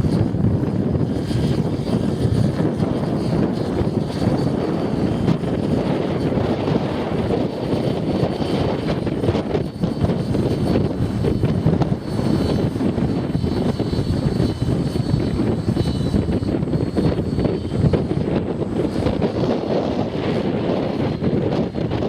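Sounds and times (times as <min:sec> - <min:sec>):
faint high whine: 0:00.0 - 0:22.0
rc helicopter motor and rotor: 0:00.0 - 0:22.0
wind buffeting microphone: 0:00.0 - 0:22.0.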